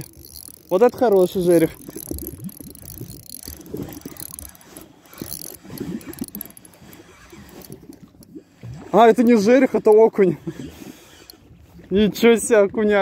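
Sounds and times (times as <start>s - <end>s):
fishing reel rattling: 0.0s - 11.5s.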